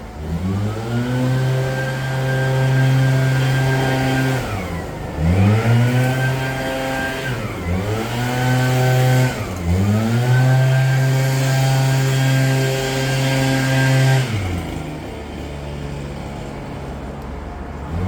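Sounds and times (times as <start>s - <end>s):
leaf blower engine revving: 0.0s - 16.9s, 17.8s - 18.0s.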